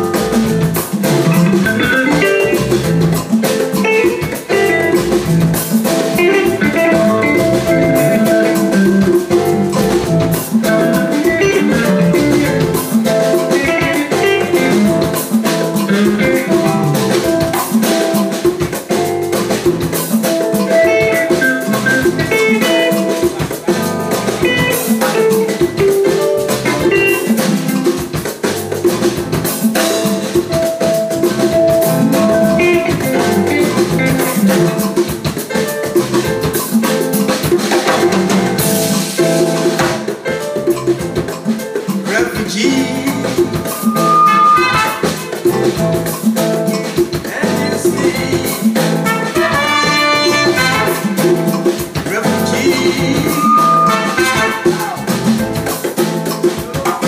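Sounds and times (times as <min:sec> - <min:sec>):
live afrobeat band: 0:00.0 - 0:57.0.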